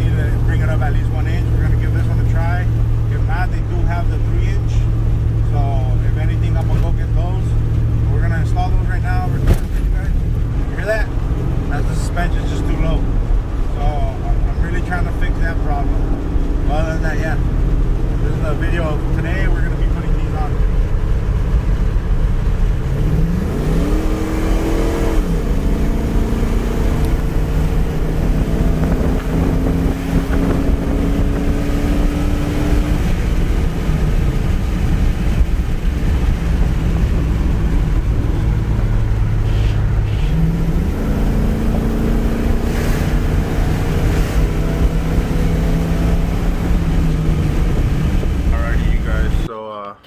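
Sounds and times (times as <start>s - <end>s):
vehicle engine revving: 0.0s - 49.5s
low road rumble: 0.0s - 50.0s.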